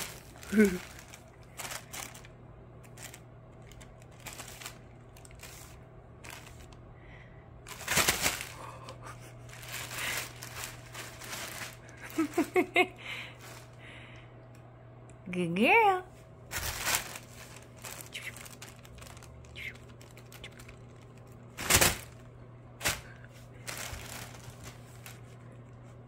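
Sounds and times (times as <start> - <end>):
plastic bag rustling: 0.0 - 6.8, 7.6 - 13.9, 16.4 - 25.6.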